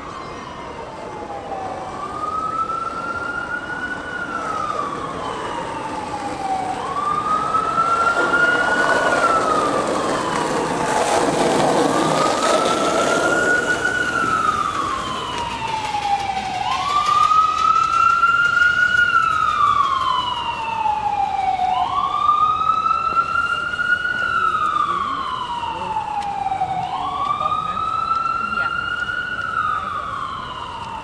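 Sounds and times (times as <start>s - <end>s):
emergency vehicle siren wailing: 0.0s - 31.0s.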